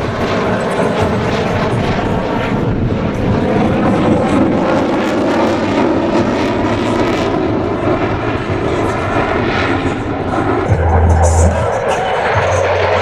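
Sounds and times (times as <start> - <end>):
airplane engine drone: 0.0 - 13.0.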